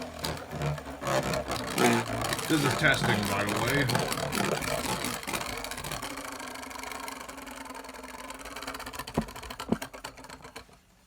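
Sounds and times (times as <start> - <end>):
spinning top whirring: 0.0 - 11.0.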